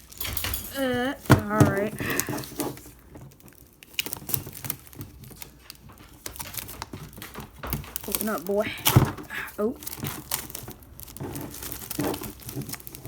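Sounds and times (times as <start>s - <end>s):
fingernail scratching plastic wrap: 0.8s - 13.0s.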